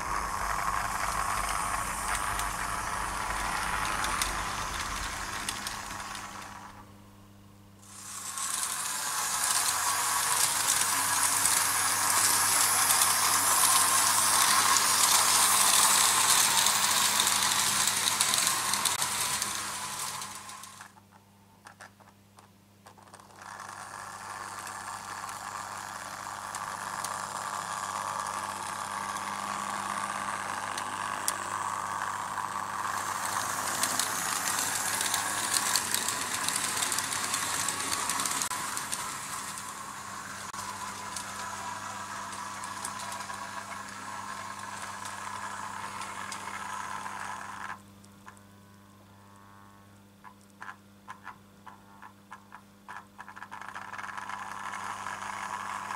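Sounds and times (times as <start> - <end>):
model train wheels clattering: 0.0 - 6.8, 8.0 - 21.0, 22.9 - 47.8, 52.9 - 55.9
low electrical hum: 0.0 - 55.9.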